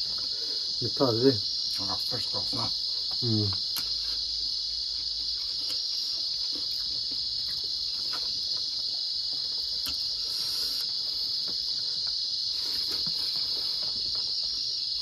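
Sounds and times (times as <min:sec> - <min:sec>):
night insects chirring: 0:00.0 - 0:15.0
people eating by hand: 0:00.0 - 0:15.0.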